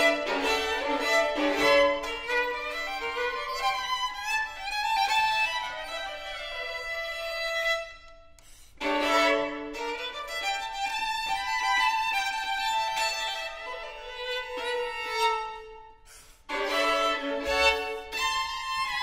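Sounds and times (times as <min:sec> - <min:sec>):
two violins playing: 0:00.0 - 0:19.0.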